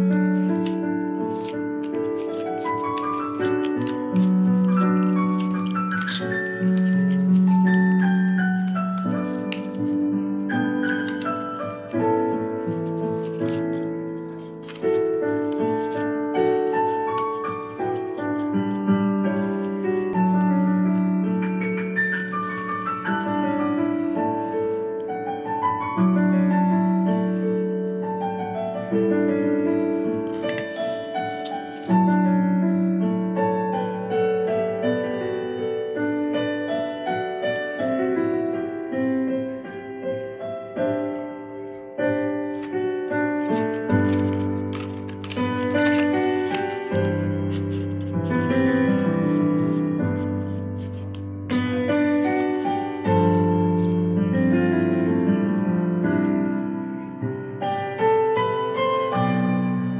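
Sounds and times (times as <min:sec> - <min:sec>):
slow piano music: 0:00.0 - 0:59.9.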